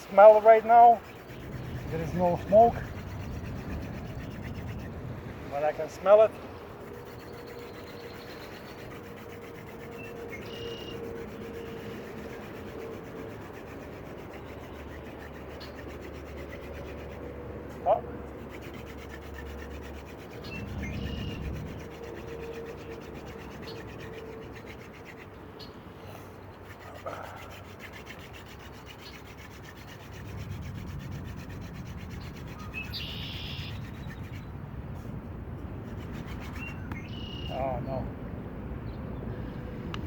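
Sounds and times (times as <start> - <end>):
wooden spindle rubbing wood: 0.0 - 25.8, 26.5 - 37.5.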